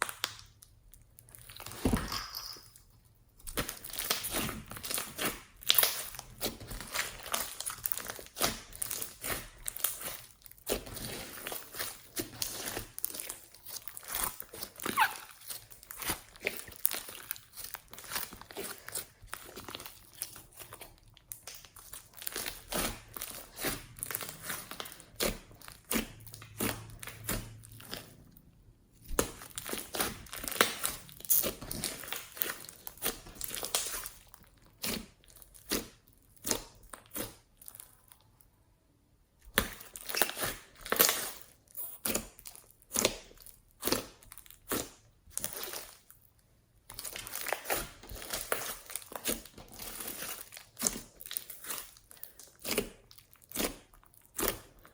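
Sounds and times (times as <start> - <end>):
slime squished by hand: 3.4 - 28.4, 29.0 - 38.2, 39.4 - 46.2, 46.8 - 54.9.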